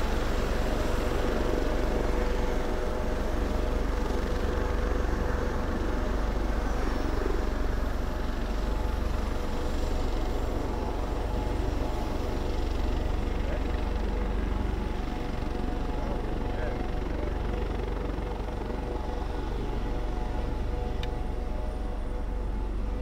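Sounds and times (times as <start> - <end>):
helicopter engine whine: 0.0 - 23.0
low rumble of rotors: 0.0 - 23.0.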